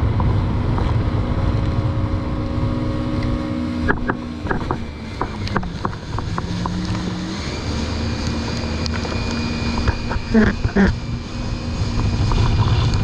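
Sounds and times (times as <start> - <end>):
jet ski engine: 0.0 - 13.0
low wind rumble: 0.0 - 13.0.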